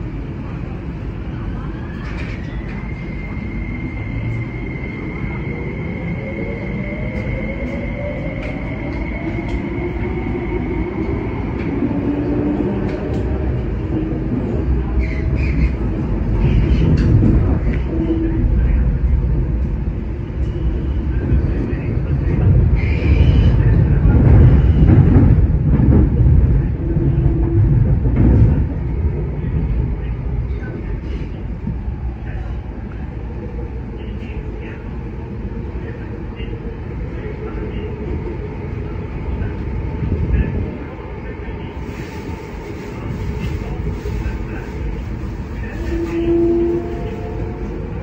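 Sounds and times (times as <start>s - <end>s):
wheels rumbling on rail: 0.0s - 48.0s.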